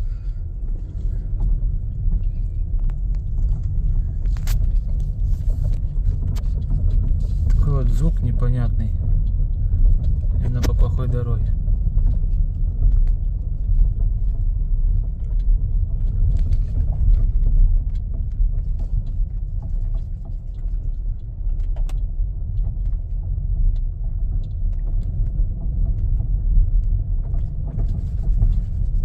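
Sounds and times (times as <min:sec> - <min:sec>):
road rumble: 0:00.0 - 0:29.0
suspension knocks and clicks: 0:00.0 - 0:29.0.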